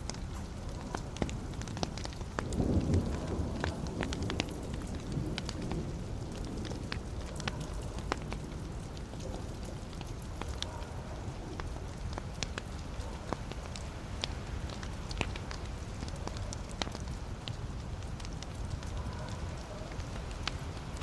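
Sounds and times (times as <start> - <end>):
logs crackling and popping: 0.0 - 21.0.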